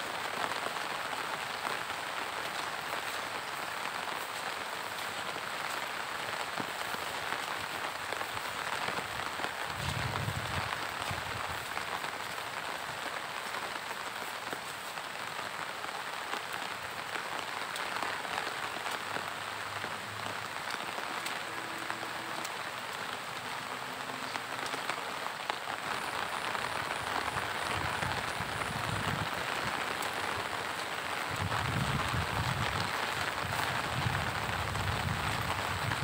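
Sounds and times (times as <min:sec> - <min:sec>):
rain falling on leaves and water: 0:00.0 - 0:36.0.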